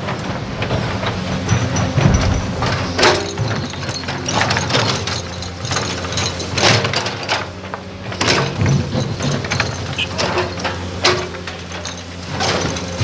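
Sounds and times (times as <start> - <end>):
excavator diesel engine hum: 0.0 - 13.0.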